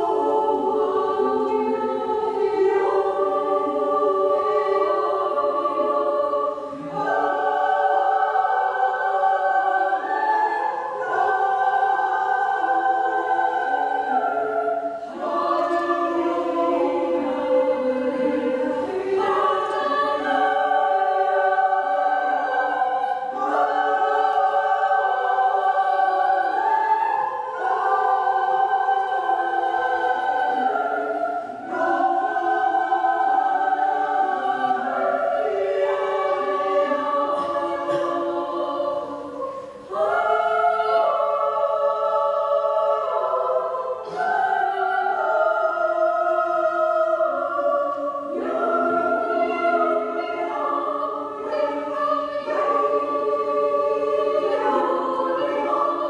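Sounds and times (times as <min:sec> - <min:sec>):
choir singing unaccompanied: 0:00.0 - 0:56.0.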